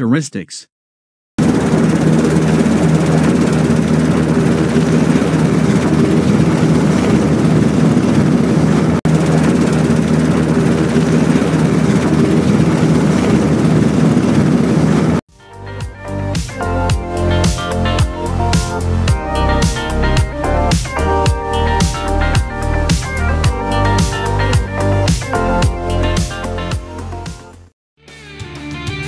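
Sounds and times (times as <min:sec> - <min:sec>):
helicopter rotors beating: 0:01.4 - 0:27.2
turbine engine whine: 0:01.4 - 0:27.7.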